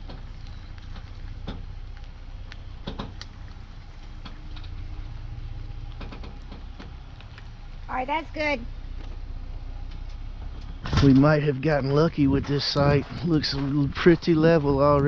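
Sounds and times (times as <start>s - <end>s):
engine running low hum: 0.0s - 15.0s.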